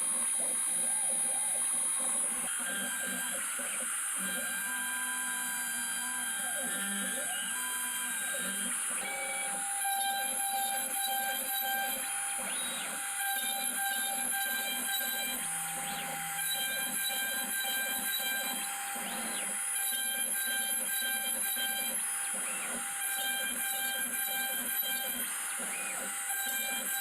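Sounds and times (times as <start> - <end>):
router spindle whine: 0.0 - 27.0.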